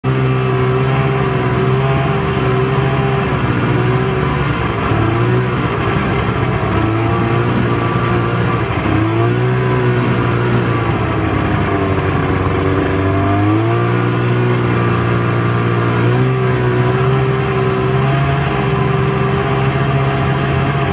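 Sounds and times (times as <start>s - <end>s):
snowmobile engine running: 0.0s - 20.9s.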